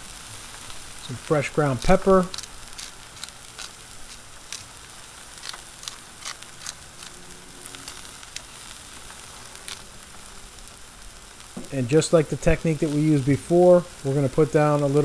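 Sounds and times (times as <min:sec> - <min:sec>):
steak sizzling on griddle: 0:00.0 - 0:15.0.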